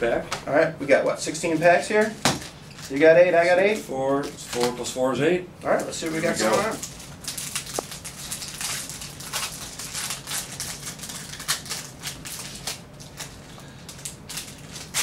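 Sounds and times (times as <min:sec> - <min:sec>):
card pack wrappers tearing: 0:01.4 - 0:05.0, 0:05.6 - 0:15.0.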